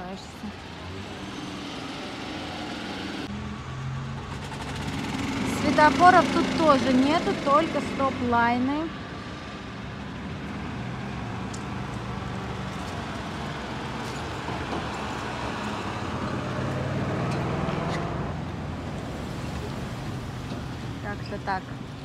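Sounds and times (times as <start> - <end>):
low engine hum of traffic: 0.0 - 22.0.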